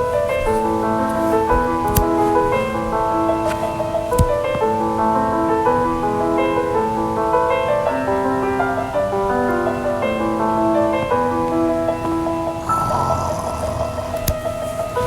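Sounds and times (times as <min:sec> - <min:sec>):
background piano music: 0:00.0 - 0:15.0.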